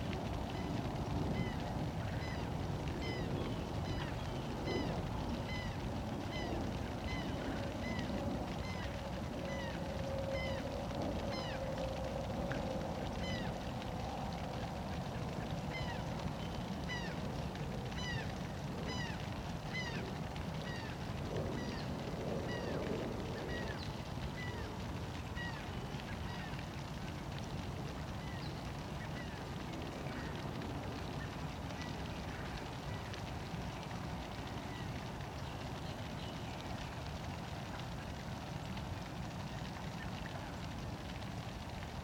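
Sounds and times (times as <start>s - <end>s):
low background noise: 0.0s - 42.0s.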